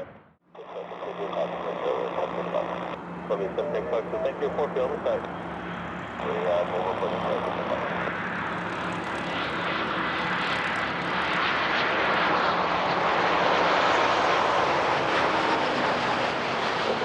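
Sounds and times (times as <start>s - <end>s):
jet engines rushing with whine: 0.0s - 17.0s.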